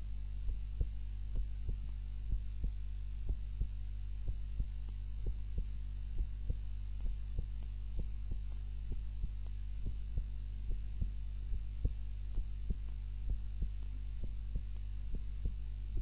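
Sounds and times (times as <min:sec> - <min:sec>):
heartbeat: 0:00.0 - 0:16.0
steady low hum: 0:00.0 - 0:16.0.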